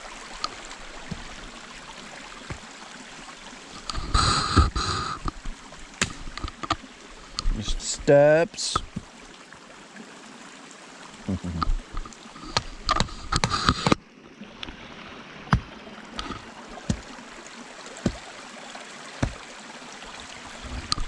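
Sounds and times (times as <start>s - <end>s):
stream running: 0.0s - 21.0s.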